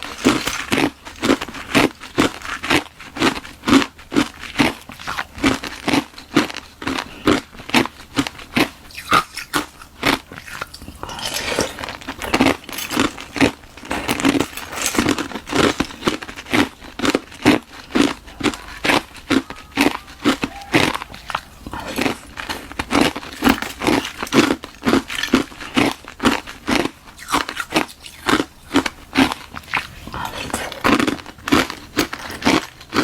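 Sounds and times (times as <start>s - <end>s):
ice being chewed: 0.0s - 33.0s.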